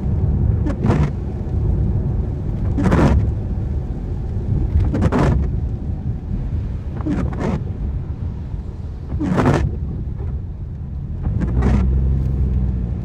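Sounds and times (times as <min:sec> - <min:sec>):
car road and engine rumble: 0:00.0 - 0:13.0
windscreen wipers swishing: 0:00.0 - 0:13.0.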